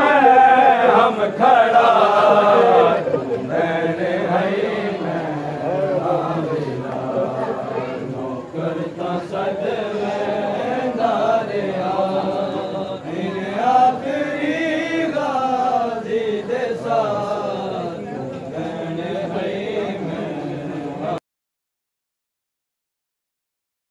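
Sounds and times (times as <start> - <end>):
men chanting in unison: 0.0 - 21.2.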